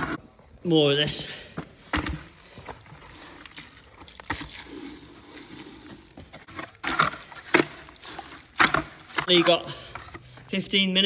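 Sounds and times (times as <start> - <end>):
concrete mixing in a bucket: 0.0 - 11.0.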